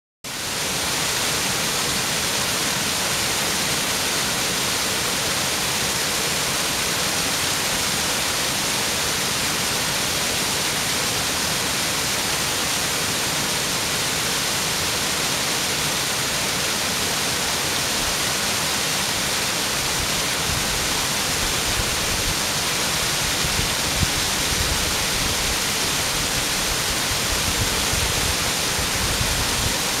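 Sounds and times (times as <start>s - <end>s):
small waterfall rushing: 0.3s - 30.0s.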